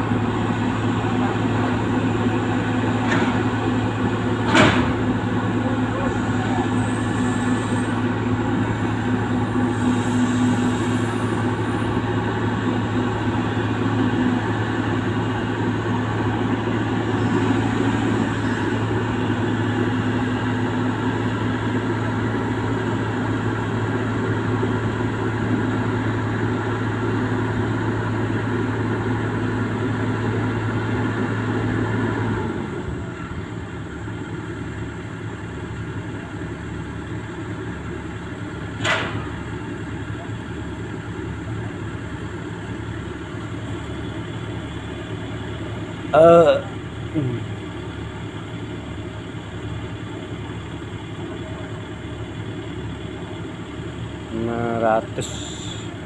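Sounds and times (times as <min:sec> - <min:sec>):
large engine running: 0:00.0 - 0:56.0.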